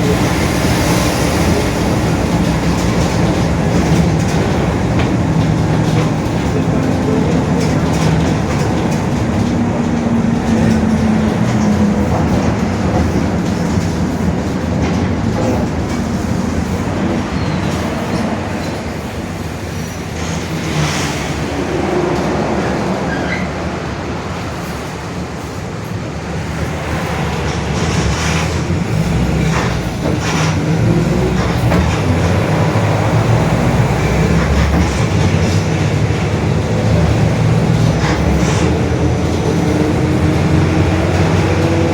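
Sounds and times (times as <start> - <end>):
drivetrain rumbling: 0.0 - 23.1, 26.1 - 41.9
bus diesel engine running: 0.0 - 41.9.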